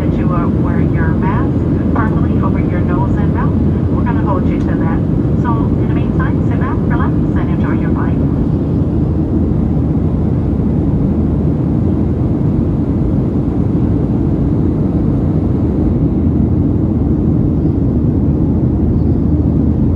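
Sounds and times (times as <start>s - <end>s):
jet engines droning: 0.0s - 19.9s.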